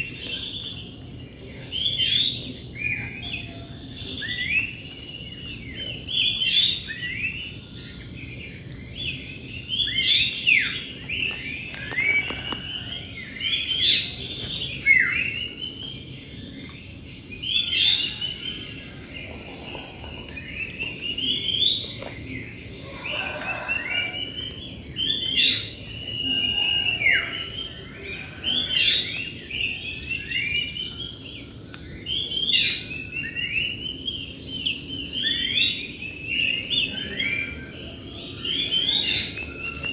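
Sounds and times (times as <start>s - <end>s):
insects trilling: 0.0s - 39.9s
wild birds chirping: 0.0s - 39.9s.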